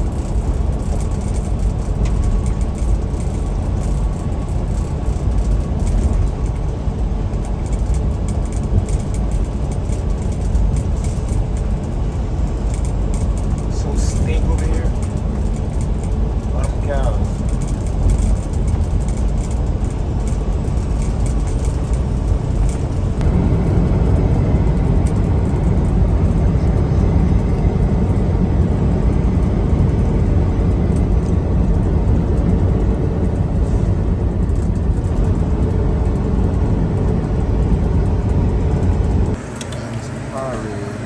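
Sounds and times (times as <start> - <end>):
truck engine and road rumble: 0.0 - 41.0.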